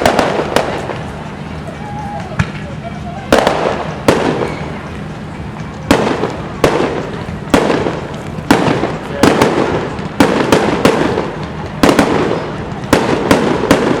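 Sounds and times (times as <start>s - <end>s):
fireworks shells bursting: 0.0s - 14.0s.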